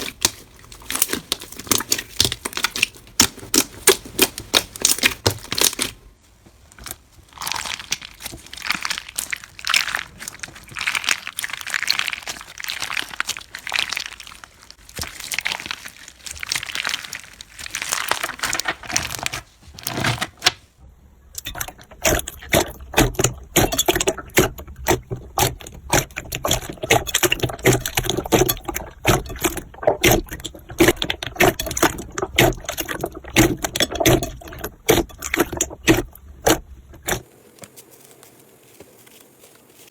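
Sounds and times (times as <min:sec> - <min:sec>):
crunchy slime crackling and popping: 0:00.0 - 0:06.1, 0:06.7 - 0:19.4, 0:21.4 - 0:37.3
slime squishing: 0:00.0 - 0:20.2, 0:21.1 - 0:37.3.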